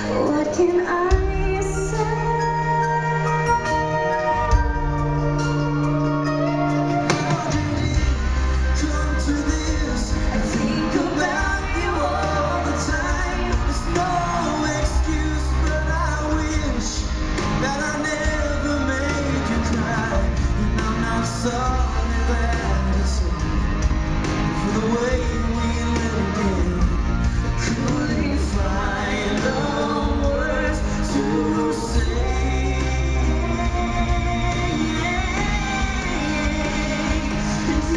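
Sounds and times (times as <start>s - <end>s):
man and woman singing duet: 0.0s - 5.4s, 7.1s - 23.7s, 24.5s - 37.9s
live band playing: 0.0s - 37.9s.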